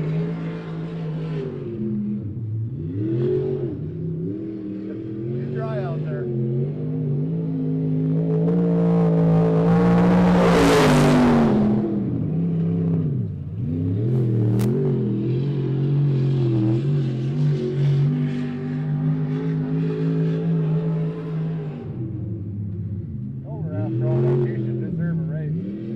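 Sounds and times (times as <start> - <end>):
race car engine at speed: 0.0 - 25.9.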